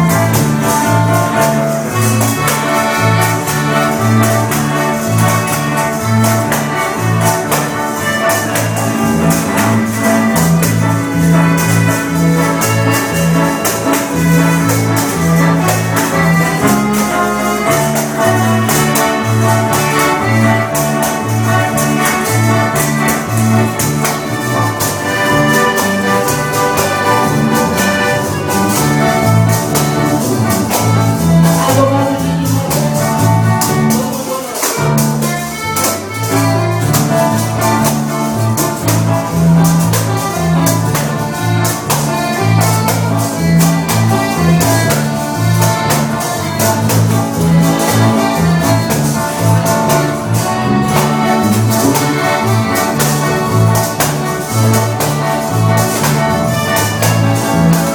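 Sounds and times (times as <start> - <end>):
bouncing bass line: 0.0 - 34.2, 34.8 - 57.9
accordion melody: 0.0 - 57.9.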